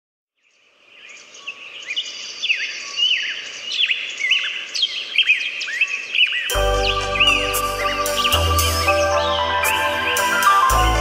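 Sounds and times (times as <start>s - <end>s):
small birds chirping: 0.4s - 11.0s.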